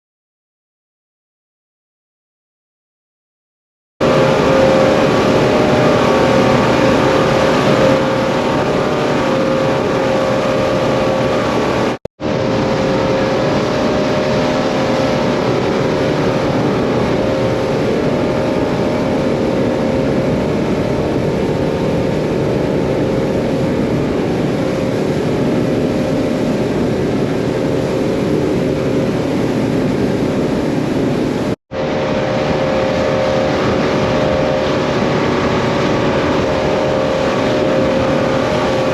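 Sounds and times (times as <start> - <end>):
outboard motors running: 4.0 - 38.9.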